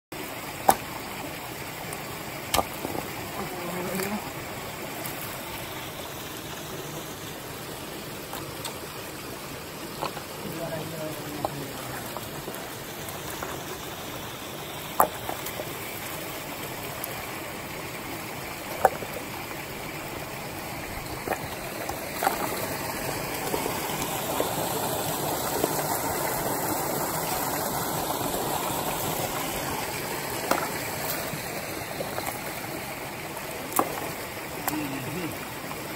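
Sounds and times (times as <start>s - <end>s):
stream rushing over stones: 0.1s - 35.9s.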